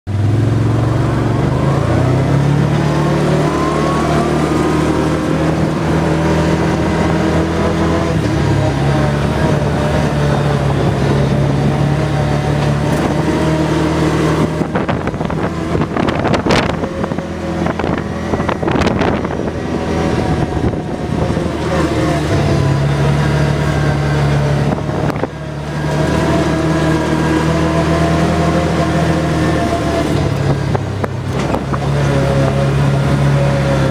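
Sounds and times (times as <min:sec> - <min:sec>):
atv engine running: 0:00.1 - 0:33.9.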